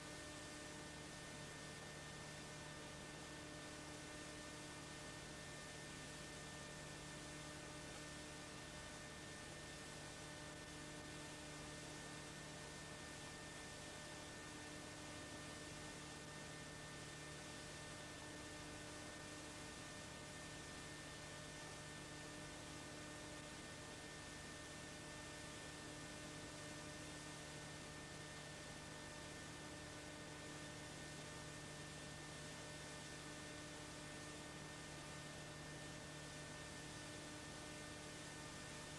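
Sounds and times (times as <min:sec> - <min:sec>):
electrical hum with fixed tones: 0:00.0 - 0:38.9.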